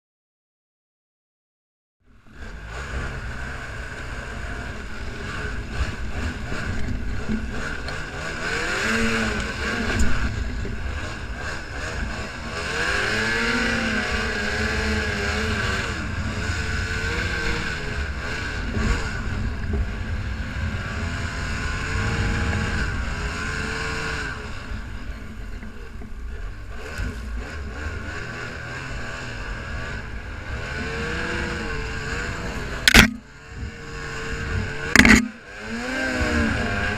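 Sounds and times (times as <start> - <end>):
track and wind noise: 2.0 - 36.9
snowmobile engine revving: 2.3 - 36.9.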